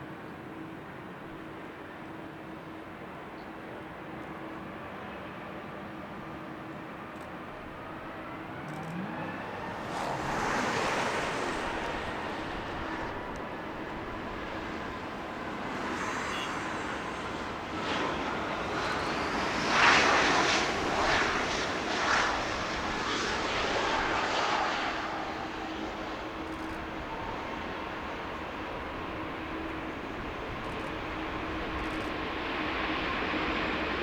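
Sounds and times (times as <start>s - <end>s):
jet engines whining: 5.9s - 34.0s.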